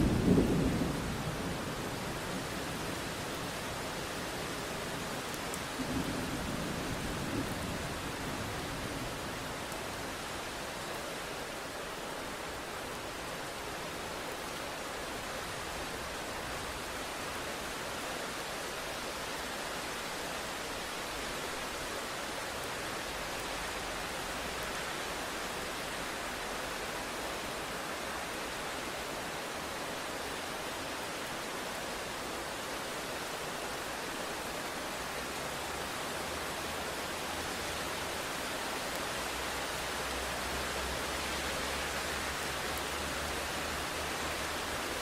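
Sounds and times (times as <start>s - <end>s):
rain hissing: 0.0s - 45.0s.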